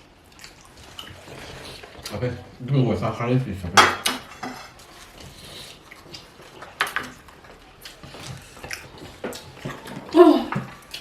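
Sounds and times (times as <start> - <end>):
soft eating noises: 0.0 - 11.0.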